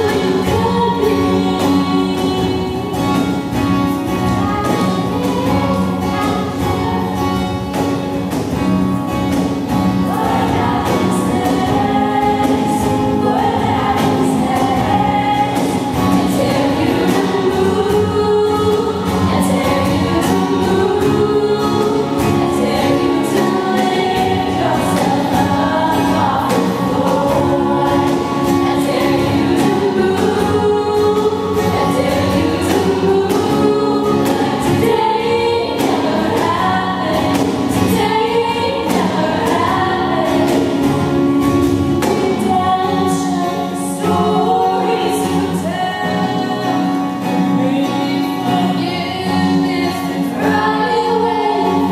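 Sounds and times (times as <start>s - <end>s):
female vocal group singing in harmony: 0.0s - 3.6s, 10.0s - 51.9s
acoustic guitar: 0.0s - 51.9s.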